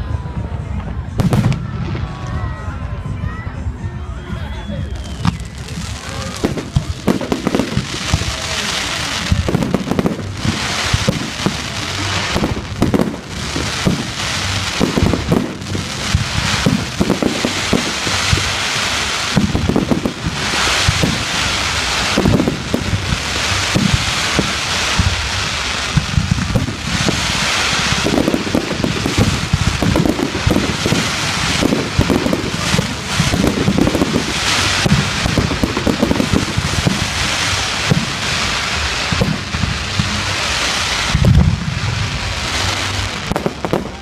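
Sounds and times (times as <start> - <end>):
fireworks crackling and banging: 0.0 - 44.0.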